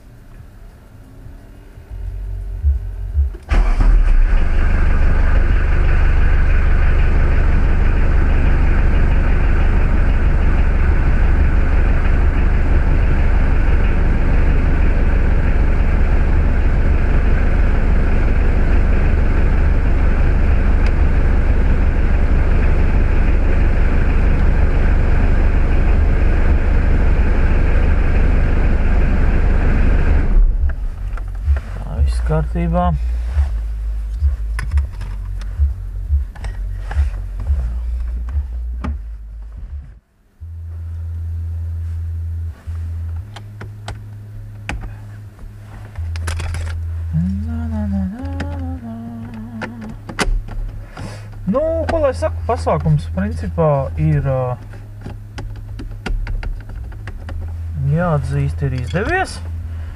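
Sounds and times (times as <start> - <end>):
heater blower fan rushing air: 0.0 - 40.0, 42.5 - 59.9.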